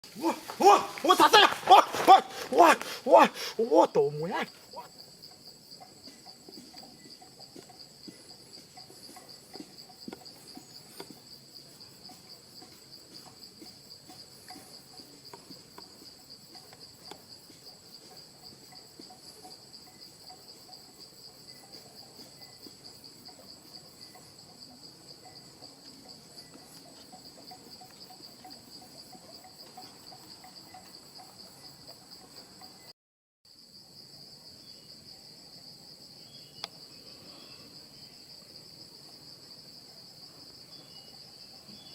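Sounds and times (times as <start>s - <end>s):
insects chorus: 0.0s - 32.9s, 33.5s - 41.9s.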